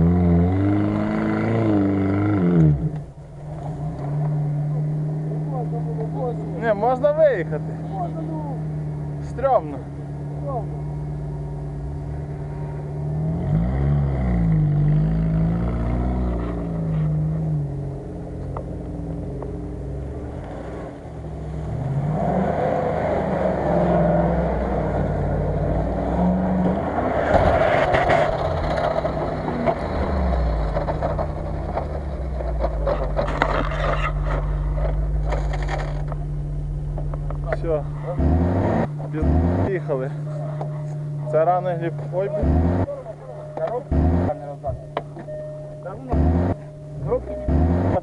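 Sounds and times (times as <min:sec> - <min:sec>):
off-road engines revving: 0:00.0 - 0:48.0.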